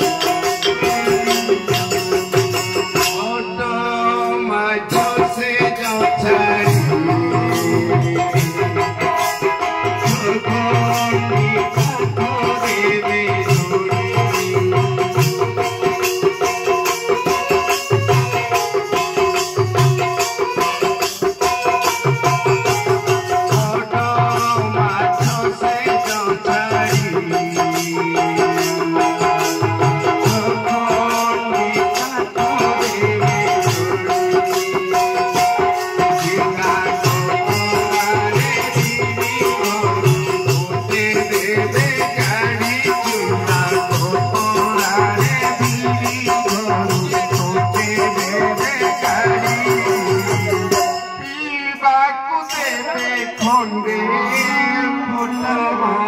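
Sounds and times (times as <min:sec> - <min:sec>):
barrel drum beating rhythm: 0:00.0 - 0:03.4, 0:04.9 - 0:51.2
fast rattling percussion: 0:00.0 - 0:51.3.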